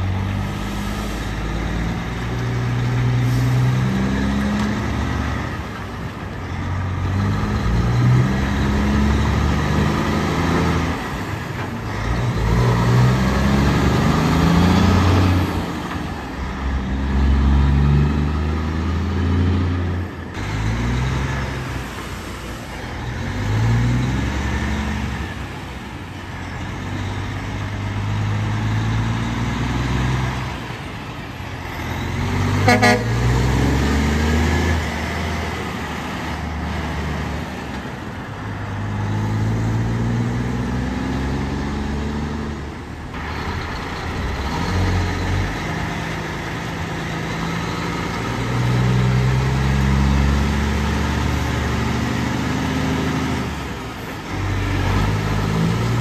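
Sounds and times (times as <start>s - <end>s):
heavy trucks shifting gears: 0.0s - 56.0s.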